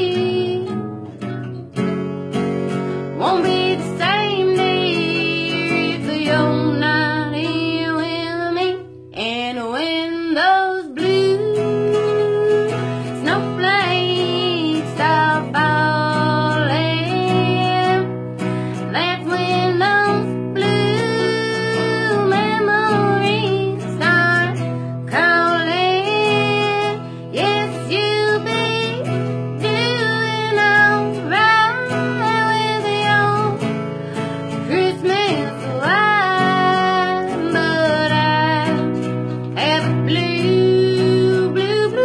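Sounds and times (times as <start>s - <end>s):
person singing: 0.0s - 0.9s, 3.1s - 42.0s
acoustic guitar chords: 0.0s - 42.0s.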